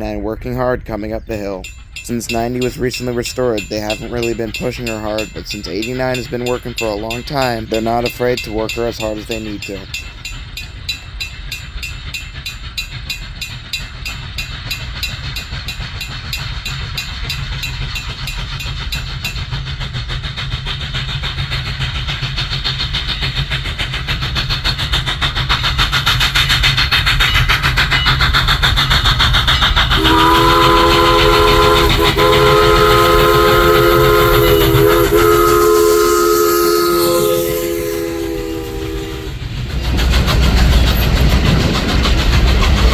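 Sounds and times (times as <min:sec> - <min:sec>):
steam locomotive exhaust chuffs: 0:00.0 - 0:42.9.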